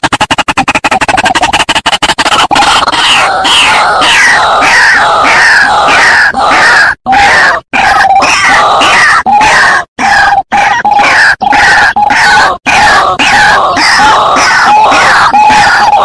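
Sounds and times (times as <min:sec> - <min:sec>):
waterhen harsh calls: 0:00.0 - 0:16.0.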